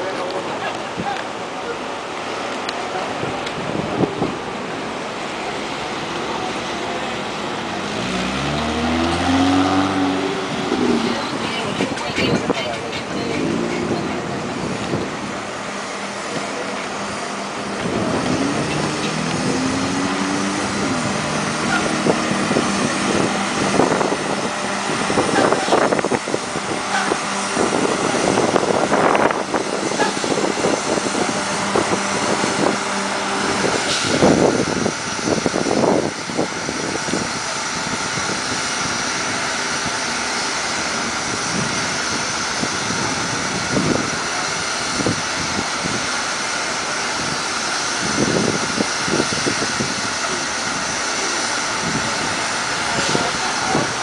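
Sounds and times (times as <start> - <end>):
bus engines droning: 0.0 - 54.0
traffic noise: 0.0 - 54.0.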